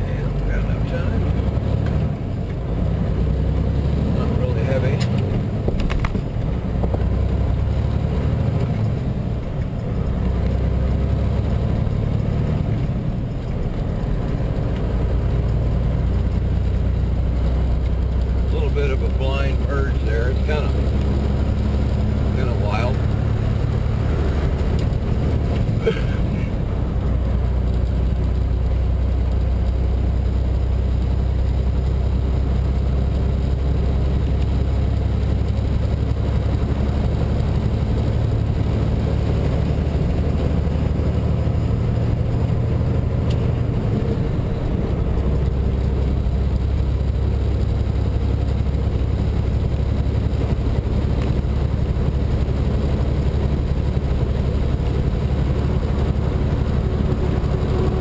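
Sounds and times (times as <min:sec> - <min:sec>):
road noise: 0:00.0 - 0:58.0
truck diesel engine drone: 0:00.0 - 0:58.0.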